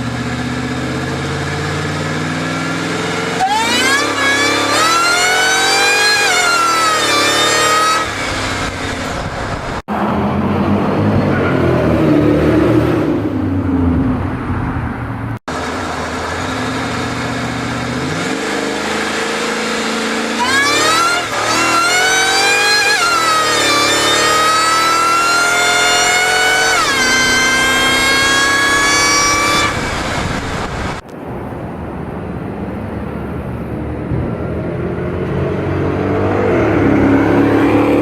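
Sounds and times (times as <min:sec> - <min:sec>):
high supercharger whine: 0:00.0 - 0:38.0
truck engine accelerating hard: 0:00.0 - 0:38.0.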